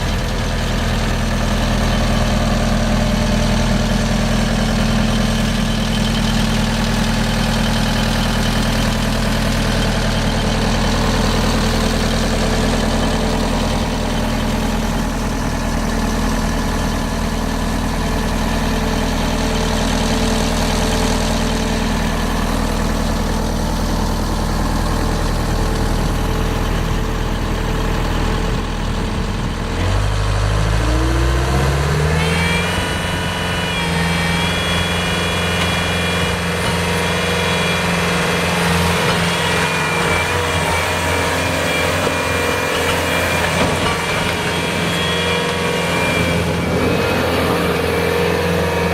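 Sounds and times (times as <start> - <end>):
diesel engine idling and revving: 0.0 - 48.9.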